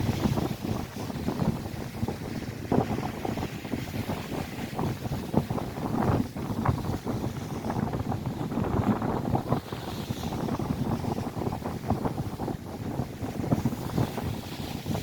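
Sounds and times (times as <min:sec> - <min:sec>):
waves breaking on the shore: 0:00.0 - 0:15.0
wind buffeting the microphone: 0:00.0 - 0:15.0.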